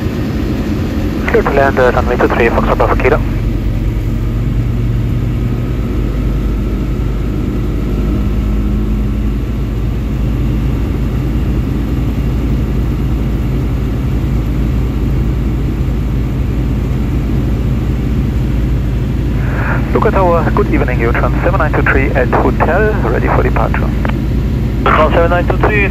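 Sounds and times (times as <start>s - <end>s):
aircraft engine droning: 0.0s - 25.9s.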